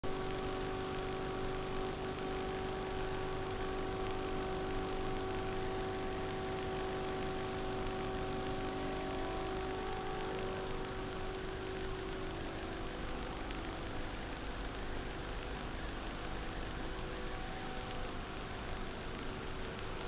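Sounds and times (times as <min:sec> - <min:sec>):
electrical hum: 0:00.0 - 0:20.0
even hiss: 0:00.1 - 0:20.0.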